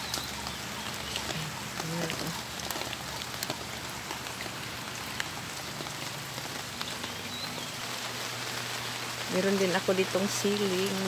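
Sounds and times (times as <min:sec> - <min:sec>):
rain falling: 0:00.0 - 0:11.0
raindrop ticks: 0:00.0 - 0:11.0.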